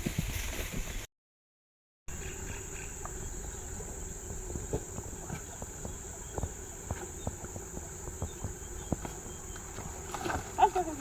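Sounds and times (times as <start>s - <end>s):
insects droning: 2.1s - 11.0s.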